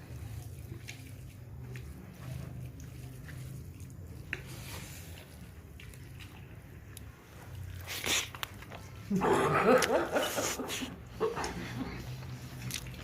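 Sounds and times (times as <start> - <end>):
person chewing: 0.0 - 13.0.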